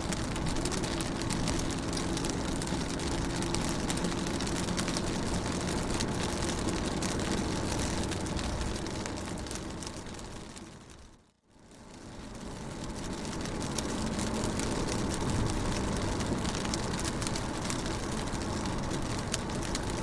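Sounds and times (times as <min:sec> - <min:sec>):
rain on a car: 0:00.0 - 0:20.0
vehicle engine hum: 0:00.0 - 0:20.0.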